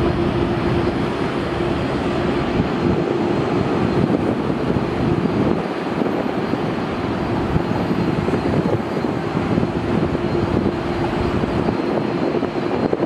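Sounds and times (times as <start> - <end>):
humming tone: 0.0 - 12.8
jet engines at takeoff: 0.0 - 13.0.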